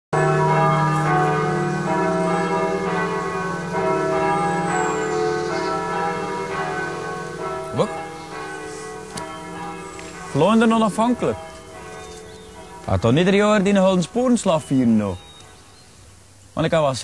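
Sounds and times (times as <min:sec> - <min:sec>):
church bells ringing: 0:00.2 - 0:15.7.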